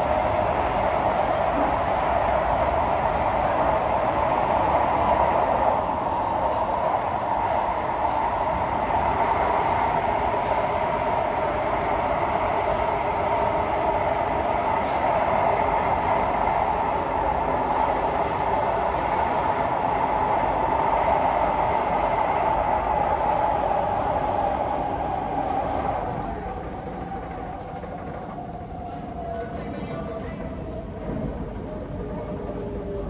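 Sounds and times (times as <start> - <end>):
metro train wheel and rail noise: 0.0 - 33.0.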